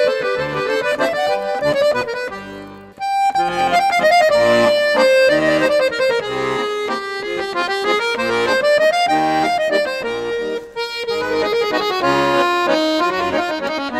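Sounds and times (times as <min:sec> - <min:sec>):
instrumental background music: 0:00.0 - 0:13.9.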